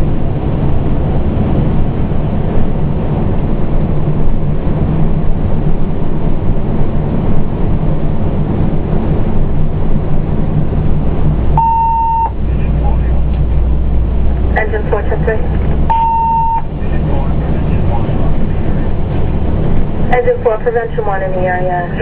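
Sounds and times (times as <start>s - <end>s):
diesel engine rumble: 0.0s - 22.0s
road noise inside cab: 0.0s - 22.0s.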